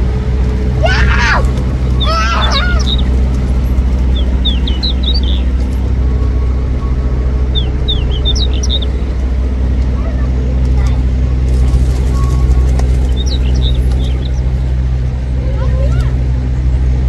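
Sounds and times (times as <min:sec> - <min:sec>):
street traffic hum: 0:00.0 - 0:17.0
small birds chirping: 0:00.8 - 0:17.0.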